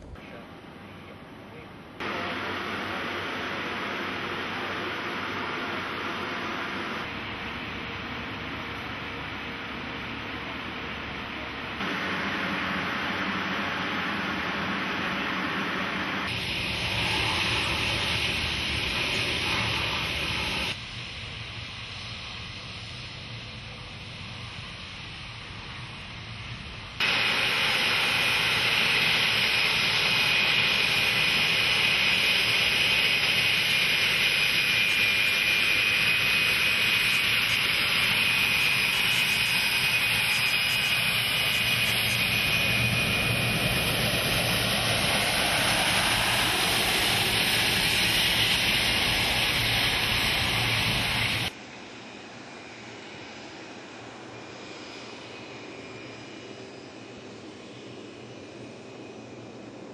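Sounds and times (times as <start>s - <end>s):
distant jet engine noise: 0.0s - 59.9s
jet engines running with fan whine: 0.0s - 59.9s.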